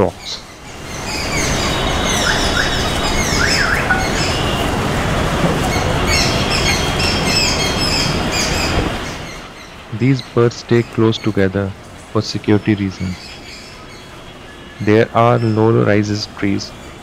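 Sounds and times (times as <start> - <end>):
birds chirping: 0.0 - 17.0
steady rushing noise: 0.0 - 17.0.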